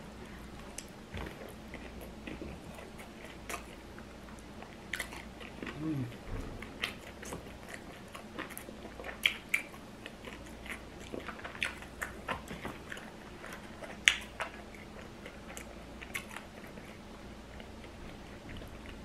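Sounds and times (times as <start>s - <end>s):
person chewing: 0.2s - 19.0s.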